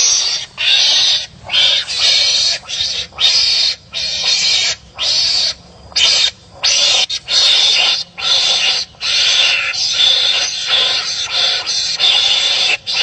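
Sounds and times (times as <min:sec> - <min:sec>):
animals giving harsh barking calls: 0:00.0 - 0:13.0.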